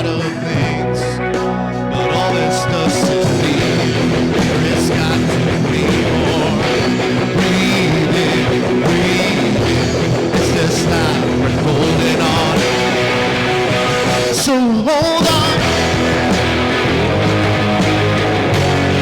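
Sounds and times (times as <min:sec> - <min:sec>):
bass: 0:00.0 - 0:14.6, 0:15.2 - 0:19.0
drums: 0:00.0 - 0:19.0
electric guitars: 0:00.0 - 0:19.0.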